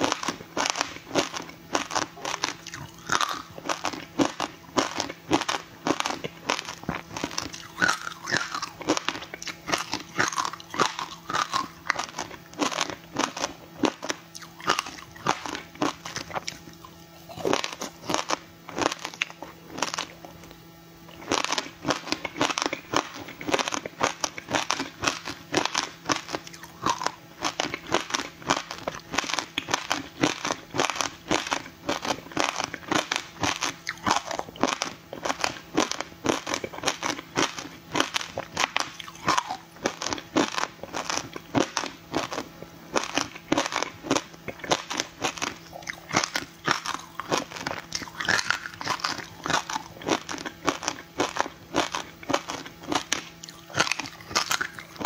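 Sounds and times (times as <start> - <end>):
ice crunching while chewed: 0.0 - 55.0.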